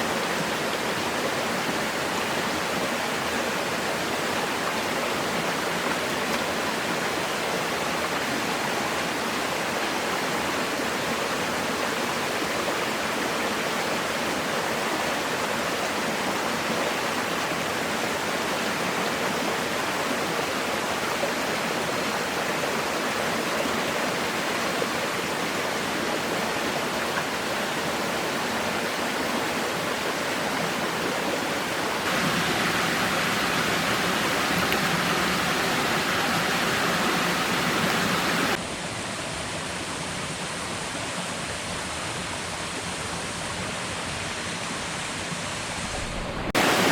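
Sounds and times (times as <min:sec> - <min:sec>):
rushing water: 0:00.0 - 0:46.9.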